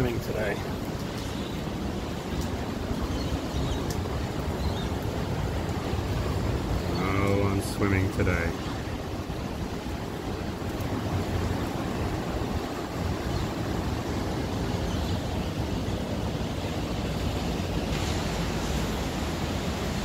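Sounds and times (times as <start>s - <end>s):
heavy rain pouring: 0.0s - 20.0s
wind rumble on microphone: 0.0s - 20.0s.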